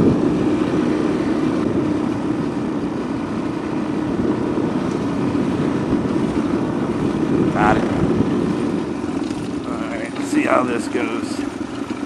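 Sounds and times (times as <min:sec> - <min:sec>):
wind noise on microphone: 0:00.0 - 0:10.6.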